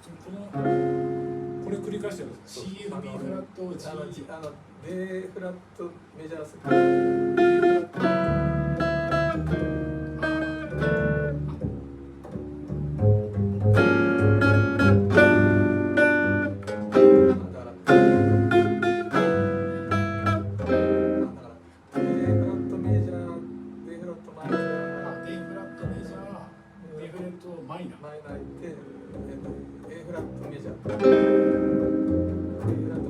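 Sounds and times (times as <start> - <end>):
guitar chords: 0.6 - 2.3, 3.0 - 3.5, 6.6 - 27.0, 28.3 - 33.0.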